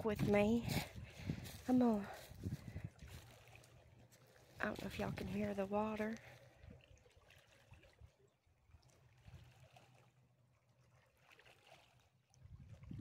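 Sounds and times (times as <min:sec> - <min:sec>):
small waves lapping against rocks: 0:00.0 - 0:13.0.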